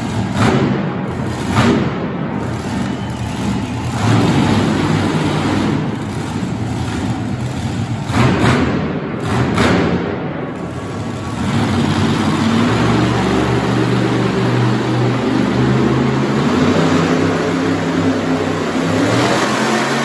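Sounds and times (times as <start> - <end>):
monster truck engine running: 0.0 - 20.0.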